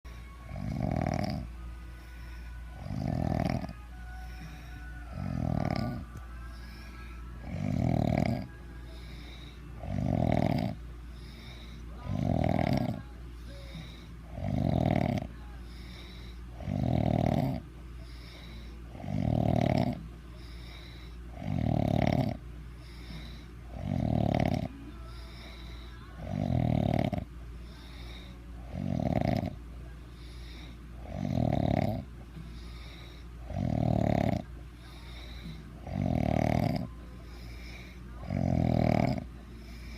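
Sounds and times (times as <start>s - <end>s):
heavy snoring: 0.2s - 29.6s, 30.2s - 39.9s.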